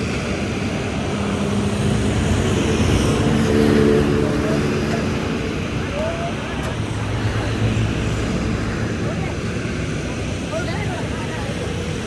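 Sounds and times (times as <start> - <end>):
road traffic rumble: 0.0 - 12.0
vehicle engine passing: 0.0 - 12.0.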